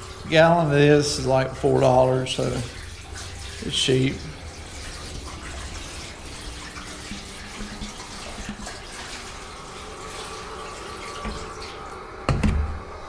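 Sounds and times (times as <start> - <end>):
liquid pouring into metal tank: 0.0 - 13.0.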